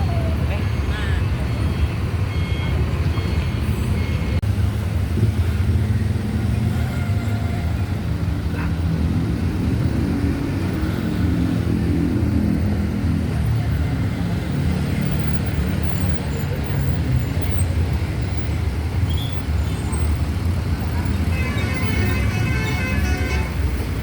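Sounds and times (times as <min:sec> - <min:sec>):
bus engine rumbling: 0:00.0 - 0:24.0.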